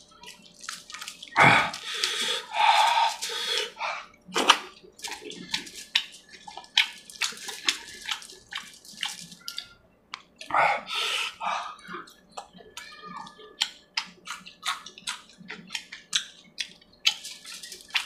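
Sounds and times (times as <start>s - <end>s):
wet chewing with clicks and smacks: 0.0s - 10.6s, 11.3s - 18.0s
fingers squelching through curry: 0.2s - 10.5s, 13.6s - 18.0s.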